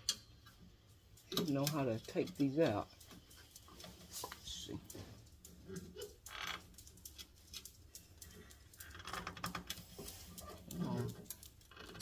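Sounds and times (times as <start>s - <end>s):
light clicks and taps: 0.0s - 12.0s.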